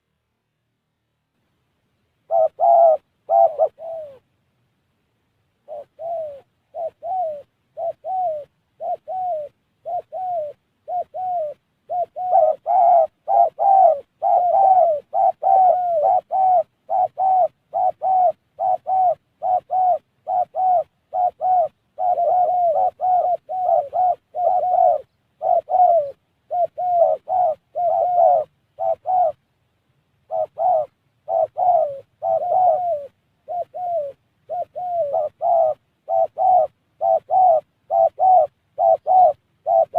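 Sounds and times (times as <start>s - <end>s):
dove cooing: 2.2s - 4.3s, 5.6s - 29.5s, 30.2s - 39.9s.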